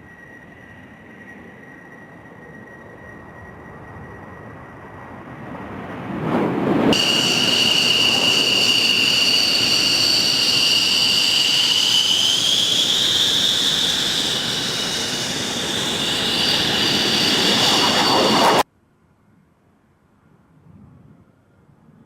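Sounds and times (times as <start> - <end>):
jet engine whine and roar: 0.0 - 18.7.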